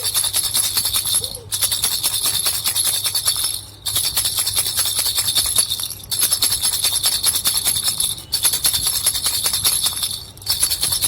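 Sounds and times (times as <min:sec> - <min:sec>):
baby rattle bells jingling: 0:00.0 - 0:11.0.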